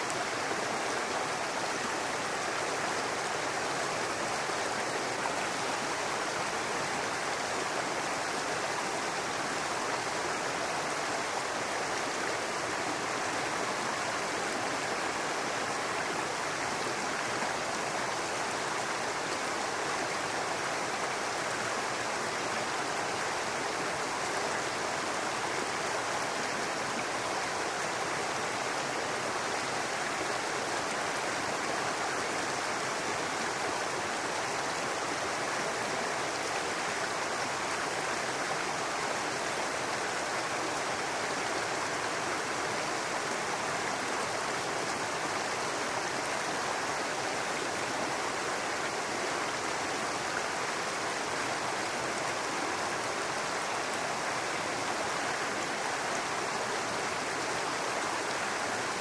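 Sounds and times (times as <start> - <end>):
brook water running over rocks: 0.0 - 59.0.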